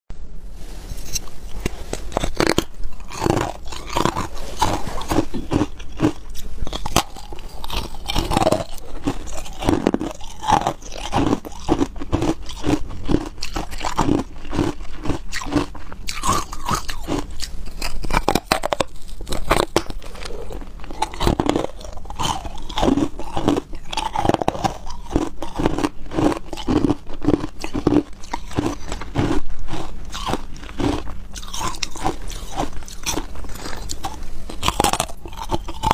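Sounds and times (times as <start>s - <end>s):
person crunching ice: 1.1s - 35.9s.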